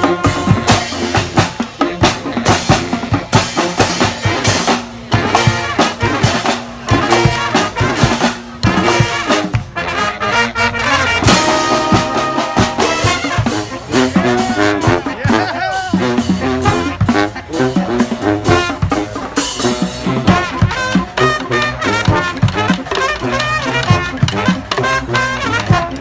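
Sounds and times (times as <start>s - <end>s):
steady drum beat: 0.0s - 26.0s
trumpets and trombones: 0.0s - 26.0s.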